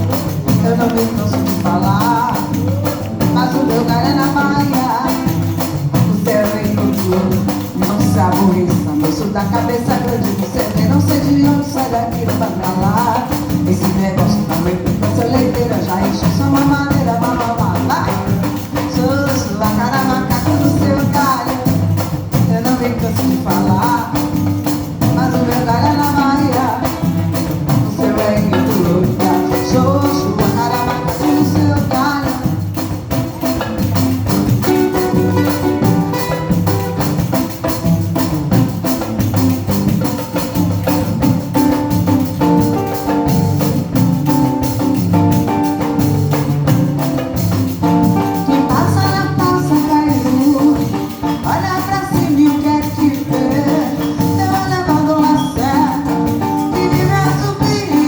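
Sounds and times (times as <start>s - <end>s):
bending melody line: 0.0s - 58.0s
samba band playing: 0.0s - 58.0s.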